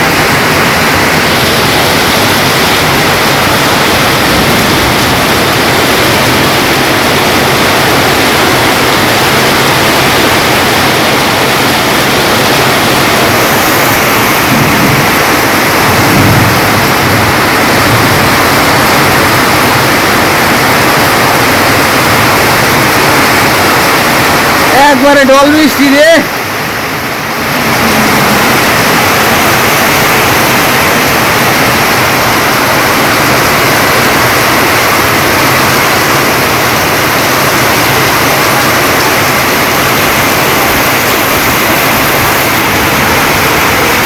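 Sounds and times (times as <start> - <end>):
heavy rain downpour: 0.0 - 44.0.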